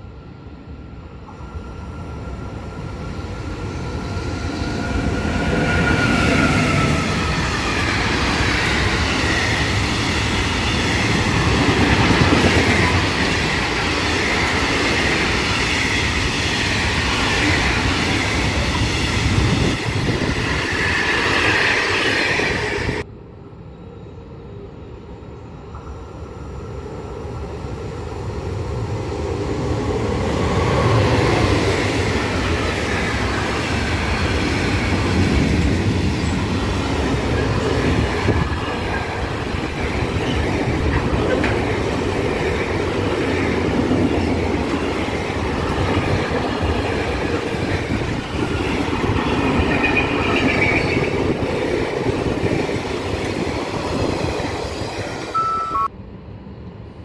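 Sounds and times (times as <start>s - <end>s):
electric locomotive passing: 0.0s - 57.0s.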